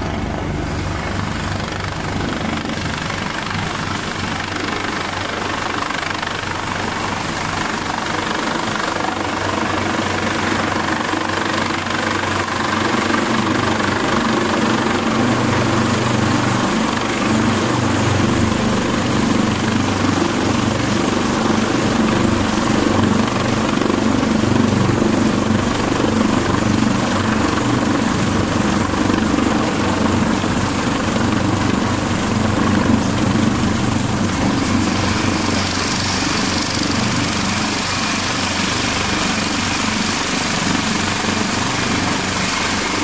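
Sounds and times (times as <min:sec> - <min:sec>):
helicopter turbine and rotor: 0:00.0 - 0:43.0.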